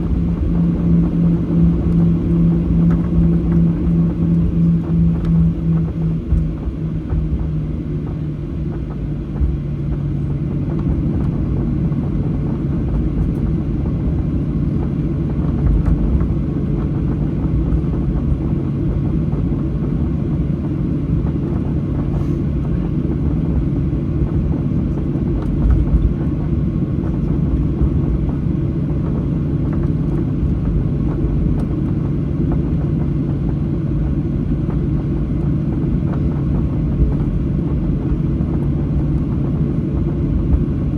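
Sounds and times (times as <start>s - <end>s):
aircraft cabin rumble: 0.0s - 40.9s
jet engines humming at idle: 0.0s - 40.9s.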